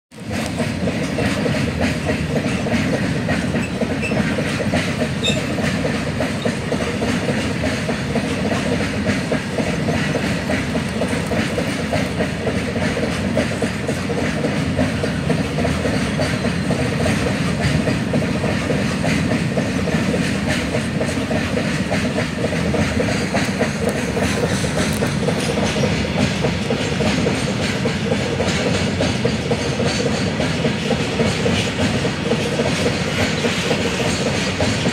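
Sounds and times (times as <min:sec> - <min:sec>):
freight train rumbling past: 0:00.1 - 0:34.9
steel wheels clattering on rails: 0:00.1 - 0:34.9.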